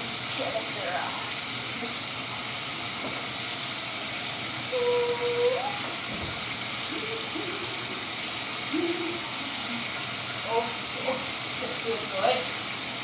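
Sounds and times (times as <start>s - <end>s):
water spraying on dog coat: 0.0s - 13.0s.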